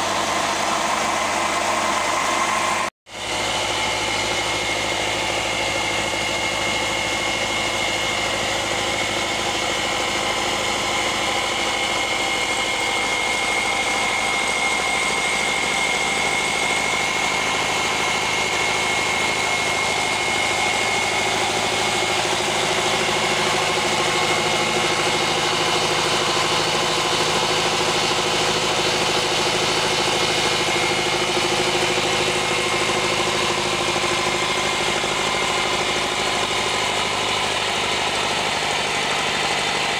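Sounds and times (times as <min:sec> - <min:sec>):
flour mill high whine: 0:00.0 - 0:39.9
tractor diesel engine running: 0:00.0 - 0:39.9.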